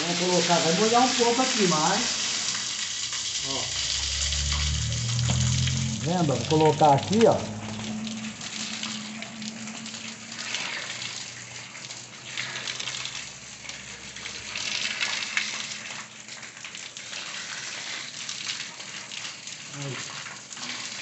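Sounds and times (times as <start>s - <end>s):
water spraying from pipe: 0.0s - 21.0s.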